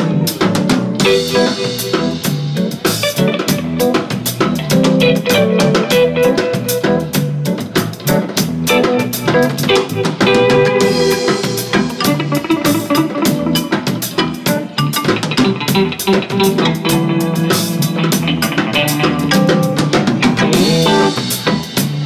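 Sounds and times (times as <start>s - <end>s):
drum kit pattern: 0.0s - 22.0s
electric bass: 0.0s - 22.0s
electric guitar: 0.0s - 22.0s
keyboards: 0.0s - 22.0s.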